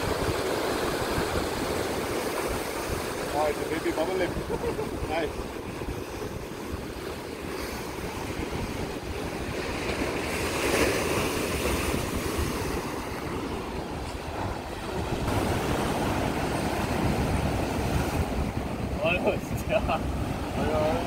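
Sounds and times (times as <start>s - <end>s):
surf breaking against rocks: 0.0s - 21.0s
wind buffeting microphone: 0.0s - 21.0s.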